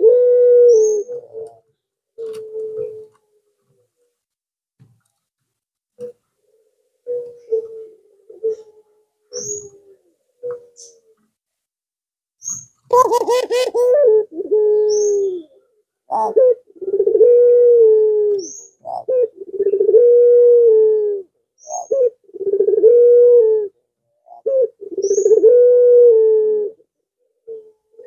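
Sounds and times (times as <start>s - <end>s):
dove cooing: 0.0s - 4.2s, 6.0s - 11.2s, 12.9s - 28.0s.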